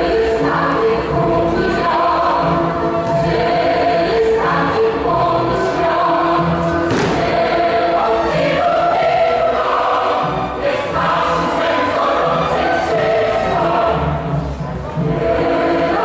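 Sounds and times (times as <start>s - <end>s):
choir singing dance music: 0.0s - 16.0s.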